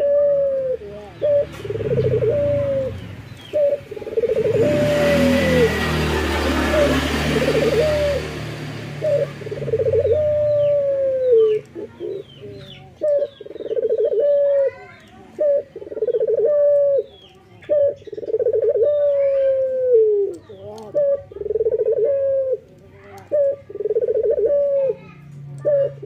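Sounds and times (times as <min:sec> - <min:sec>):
dove cooing: 0:00.0 - 0:26.0
small birds chirping: 0:00.0 - 0:26.0.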